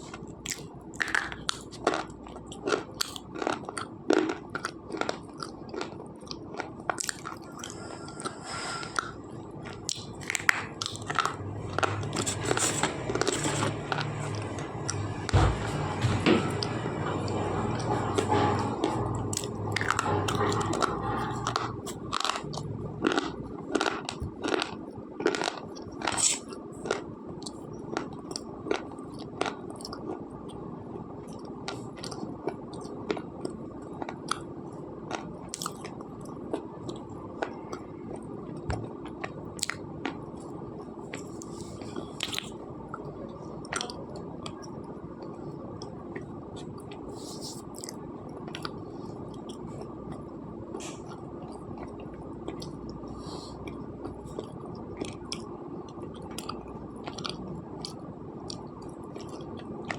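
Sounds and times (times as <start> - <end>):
person chewing crunchy pencils: 0.0 - 15.3, 16.6 - 59.9.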